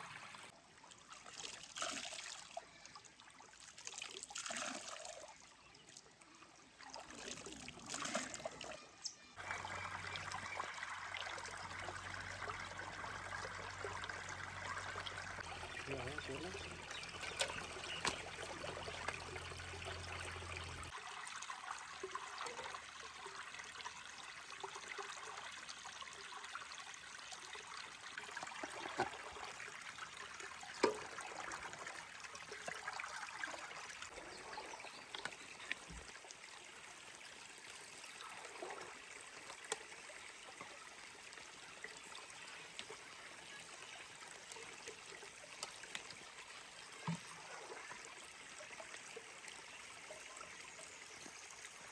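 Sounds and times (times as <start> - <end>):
trickling water: 0.0 - 51.9.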